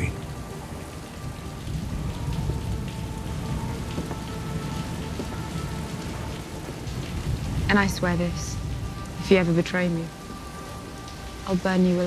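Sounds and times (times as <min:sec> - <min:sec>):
low rumble of thunder: 0:00.0 - 0:11.8
steady rain: 0:00.0 - 0:12.0.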